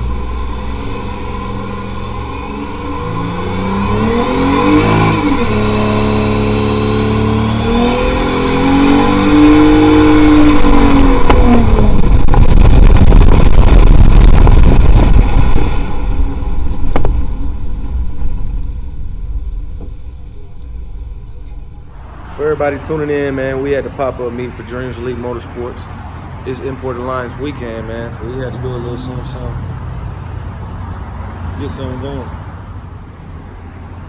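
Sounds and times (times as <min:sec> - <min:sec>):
car engine revving: 0:00.0 - 0:27.3.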